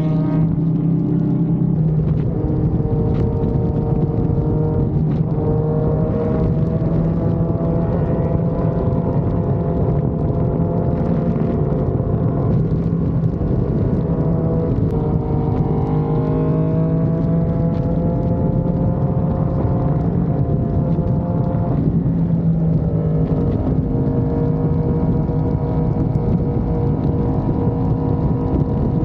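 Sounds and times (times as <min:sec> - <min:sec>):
motorcycle engine running: 0:00.0 - 0:29.0
road noise: 0:00.0 - 0:29.0
rush of wind: 0:00.0 - 0:29.0.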